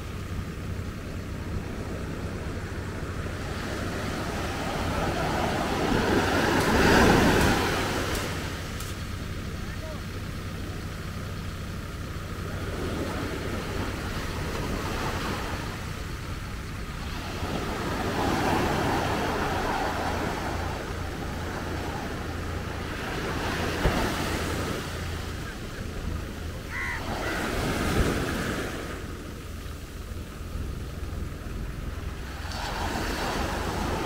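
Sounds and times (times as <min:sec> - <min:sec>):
small waves breaking on sand: 0:00.0 - 0:10.6, 0:12.2 - 0:34.0
steady low rumble: 0:00.0 - 0:34.0.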